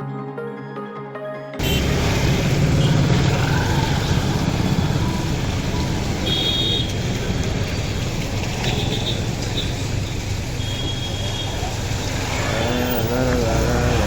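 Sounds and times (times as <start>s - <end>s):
heavy rain: 1.6s - 14.0s
vehicles passing: 1.6s - 14.0s.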